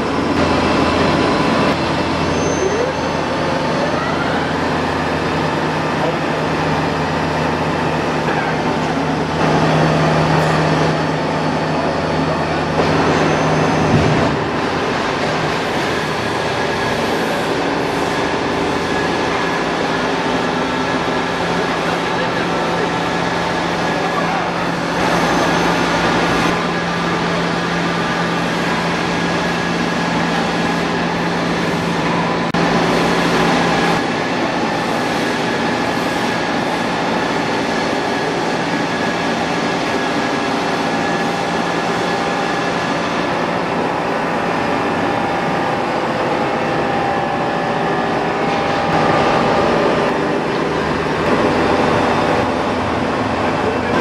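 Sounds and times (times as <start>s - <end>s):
boring machine drone: 0.0s - 54.0s
machine whining tones: 0.0s - 54.0s.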